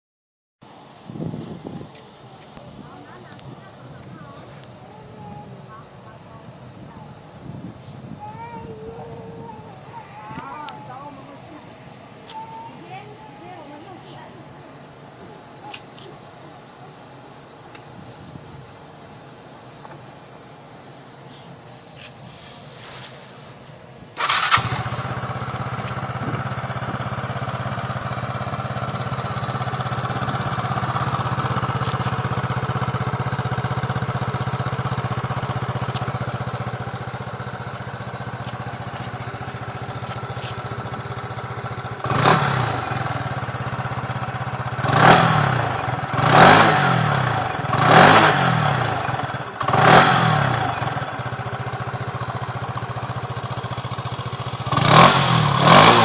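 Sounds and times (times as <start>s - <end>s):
motorbike engine idling and revving: 1.0s - 56.0s.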